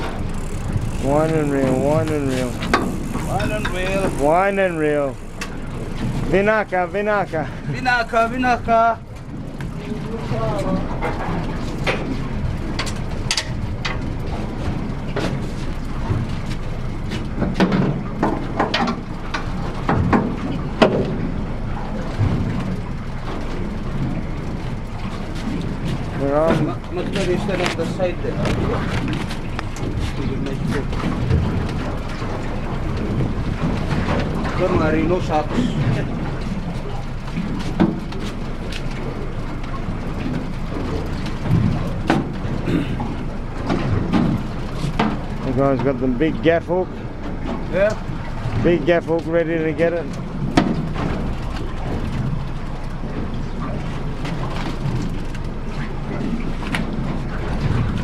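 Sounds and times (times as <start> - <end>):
boat engine running: 0.0 - 58.0
water noise: 0.0 - 58.0
wind: 0.0 - 58.0.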